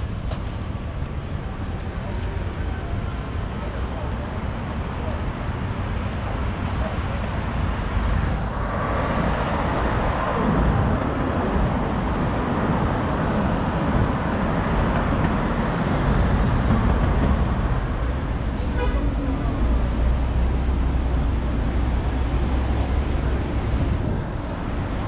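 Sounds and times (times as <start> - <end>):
road traffic driving past: 0.0 - 25.0.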